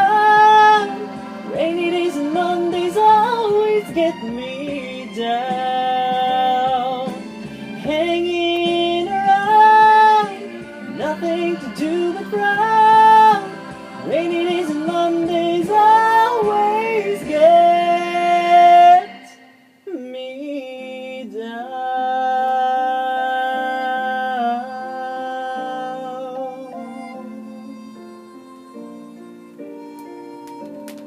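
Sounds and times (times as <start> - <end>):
person singing: 0.0 - 29.2
instrumental backing: 0.0 - 31.0.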